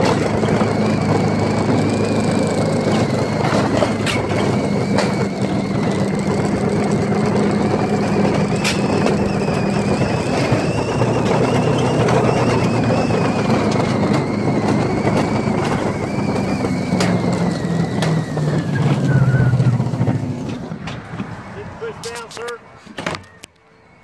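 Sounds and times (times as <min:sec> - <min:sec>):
sled rolling rumble and rattle: 0:00.0 - 0:23.4.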